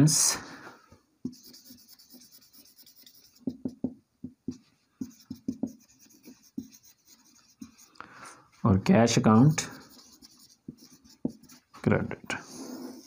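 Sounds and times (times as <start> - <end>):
marker writing on whiteboard: 1.2 - 8.0, 8.8 - 13.0.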